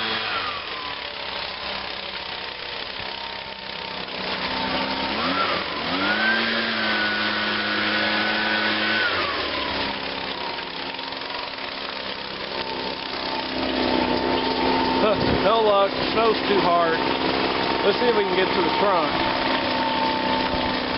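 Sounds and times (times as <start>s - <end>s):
leaf blower engine revving: 0.0s - 20.9s.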